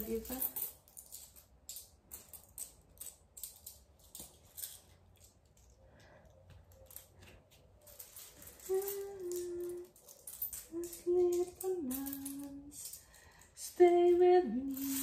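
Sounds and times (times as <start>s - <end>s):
coins clicking together: 0.0s - 5.7s, 7.9s - 15.0s.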